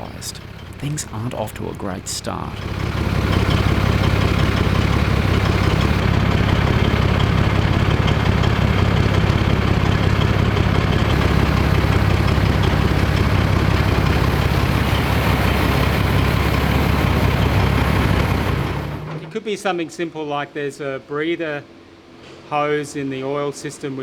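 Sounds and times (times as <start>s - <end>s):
diesel engine idling: 0.0s - 19.2s.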